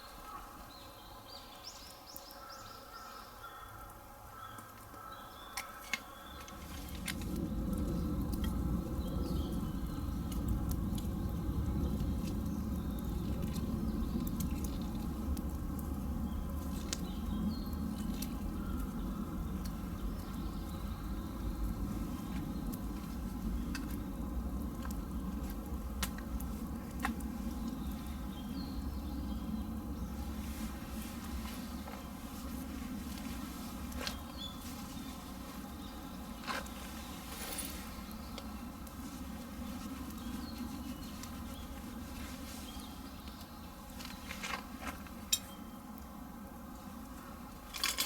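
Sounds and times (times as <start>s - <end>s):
campfire low rumble: 3.8s - 48.0s
wood crackling and popping: 3.8s - 48.0s.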